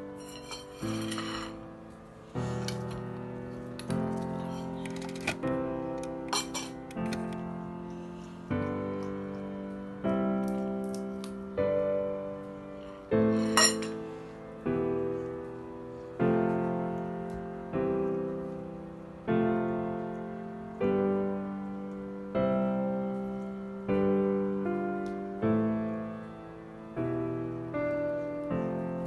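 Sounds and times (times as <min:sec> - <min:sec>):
slow piano chords: 0:00.0 - 0:29.0.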